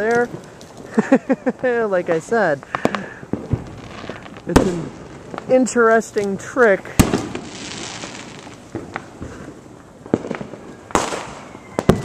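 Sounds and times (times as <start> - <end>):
fireworks bangs: 0.0 - 12.0
fireworks crackling hiss: 0.0 - 12.0
firework rushing hiss: 2.2 - 12.0.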